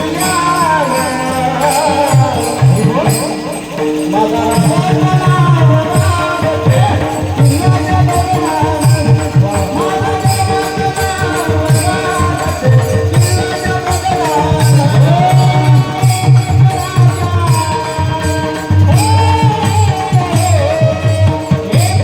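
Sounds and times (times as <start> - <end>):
jingling hand cymbals: 0.0 - 22.0
man singing long gliding notes: 0.0 - 22.0
steady drone: 0.0 - 22.0
steady drum beat: 0.0 - 22.0.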